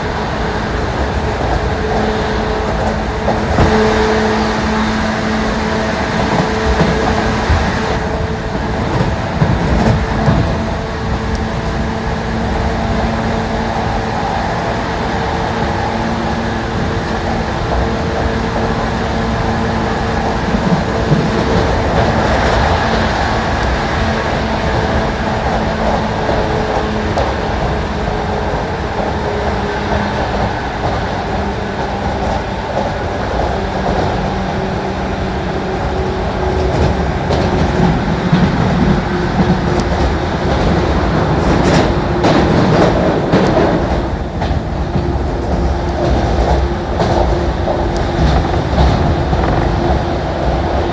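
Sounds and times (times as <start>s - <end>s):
electric train hum: 0.0s - 50.9s
train wheels rumbling on rail: 0.0s - 50.9s.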